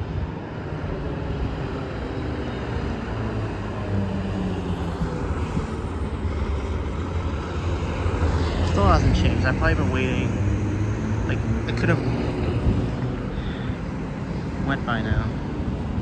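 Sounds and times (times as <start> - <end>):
diesel truck engine: 0.0 - 16.0
traffic engine drone: 0.0 - 16.0.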